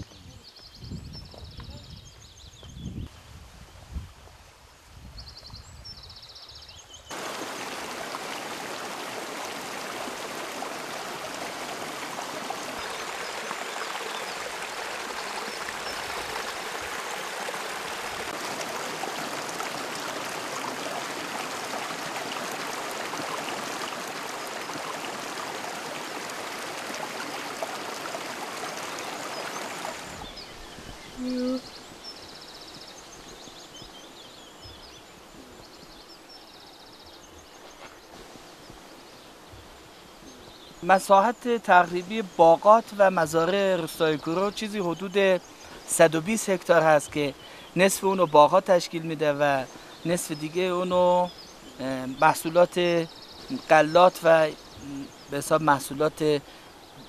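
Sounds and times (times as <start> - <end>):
stream water rushing: 7.1 - 57.0.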